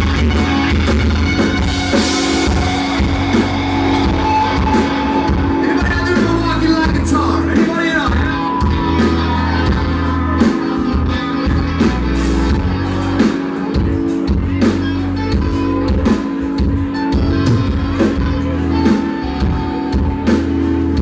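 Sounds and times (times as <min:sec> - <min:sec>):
live country band playing: 0:00.0 - 0:21.0.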